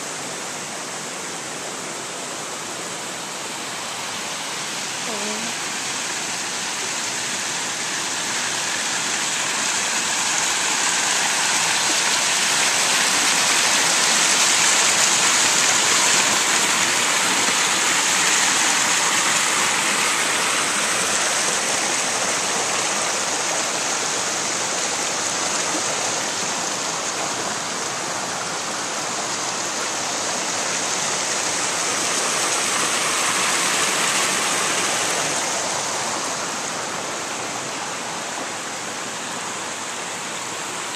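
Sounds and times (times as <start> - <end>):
water splashing over weirs: 0.0 - 40.9.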